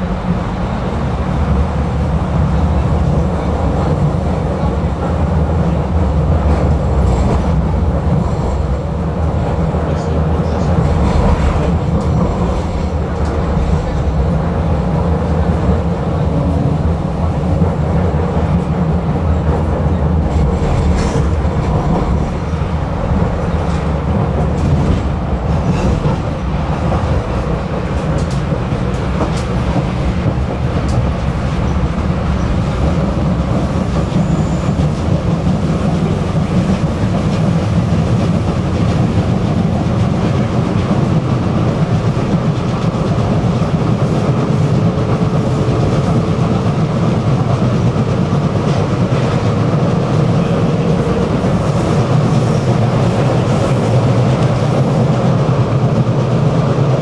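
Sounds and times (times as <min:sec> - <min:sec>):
tram wheels rumbling: 0:00.0 - 0:57.0.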